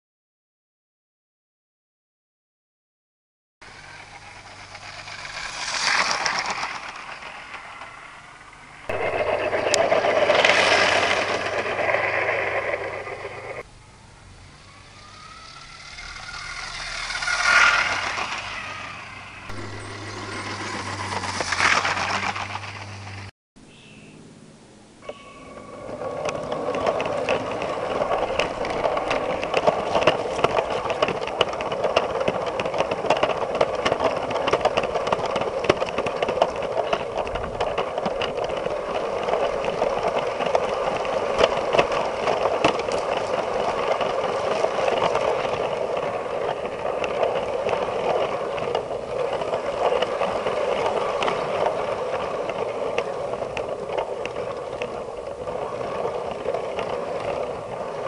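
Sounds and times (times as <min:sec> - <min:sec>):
wheels clicking over rail joints: 0:03.6 - 0:23.3, 0:25.0 - 0:58.0
toy train motor whirring: 0:03.7 - 0:13.7, 0:14.5 - 0:23.3, 0:26.2 - 0:58.0.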